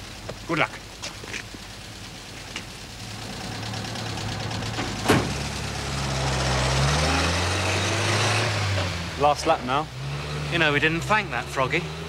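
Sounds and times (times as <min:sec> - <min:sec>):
lorry engine running: 0:00.0 - 0:10.0.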